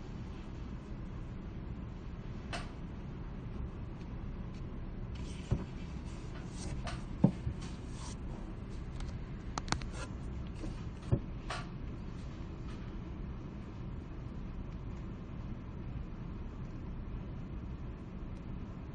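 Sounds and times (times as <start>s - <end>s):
low room hum: 0.0s - 18.9s.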